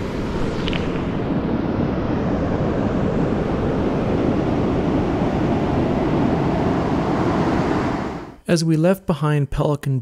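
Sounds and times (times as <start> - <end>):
surf breaking on a beach: 0.0 - 8.4.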